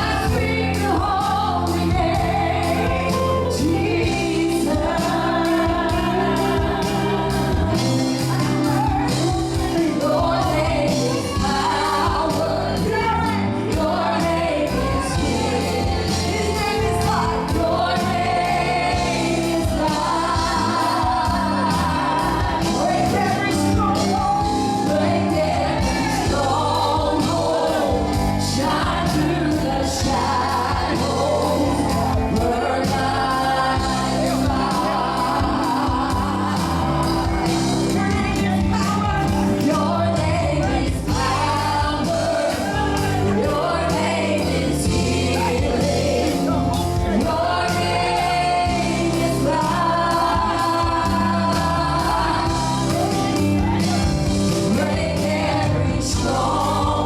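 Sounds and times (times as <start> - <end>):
gospel singing with live band: 0.0 - 57.0.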